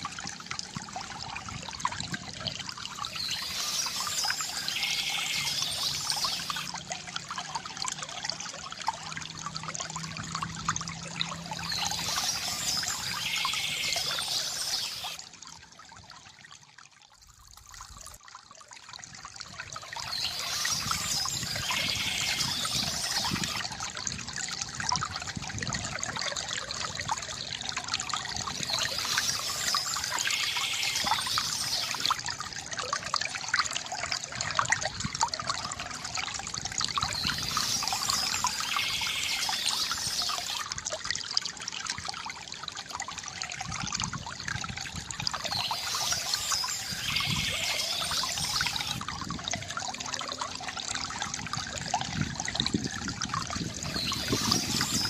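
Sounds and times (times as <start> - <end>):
water trickling from fountain: 0.0 - 55.0.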